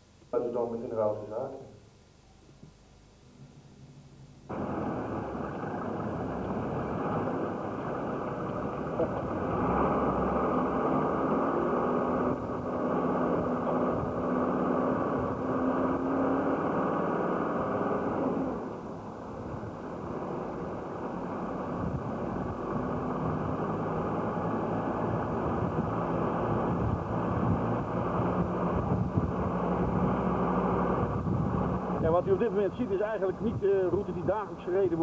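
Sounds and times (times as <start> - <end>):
faint steady hum: 0.0 - 35.0
vehicle engine and road noise: 4.5 - 35.0.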